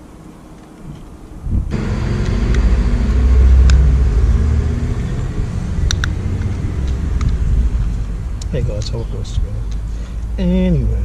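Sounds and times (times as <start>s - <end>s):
vehicle engine running: 1.7s - 11.0s.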